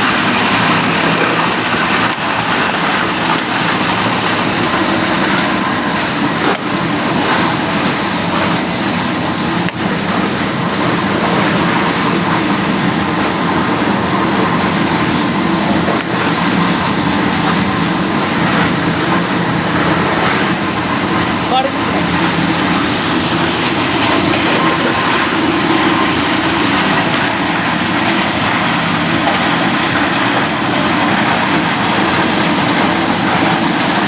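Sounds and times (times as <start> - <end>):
low machine hum: 0.0 - 34.0
recycling machinery din: 0.0 - 34.0.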